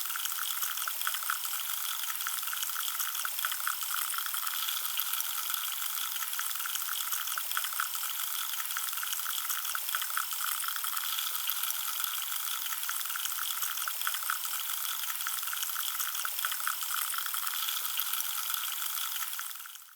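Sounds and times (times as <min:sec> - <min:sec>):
carbonated drink fizzing: 0:00.0 - 0:19.9.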